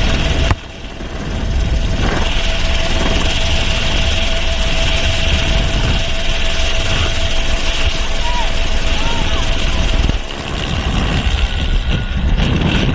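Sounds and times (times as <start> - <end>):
propeller engine: 0.0 - 12.9
thin steady whistling tone: 0.0 - 12.9
wind rush in flight: 0.0 - 12.9.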